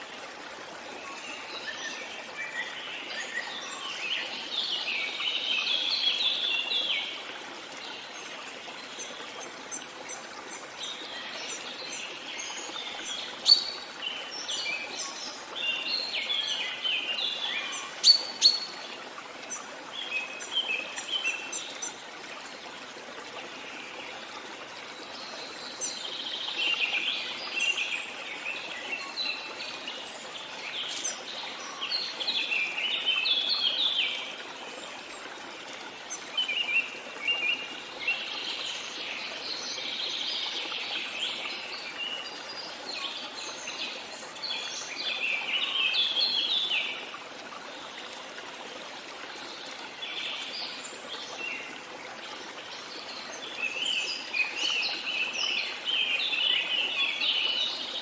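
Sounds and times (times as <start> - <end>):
songbirds chirping: 0.0 - 58.0
stream rushing: 0.0 - 58.0.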